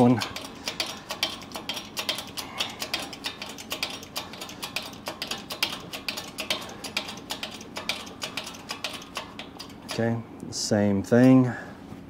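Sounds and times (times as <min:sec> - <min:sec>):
hydraulic press pump clicking: 0:00.0 - 0:10.1.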